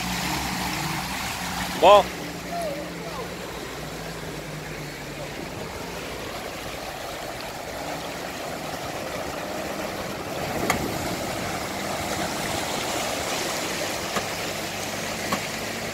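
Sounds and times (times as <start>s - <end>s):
engine low hum: 0.0s - 15.9s
river water rushing and splashing: 0.0s - 15.9s.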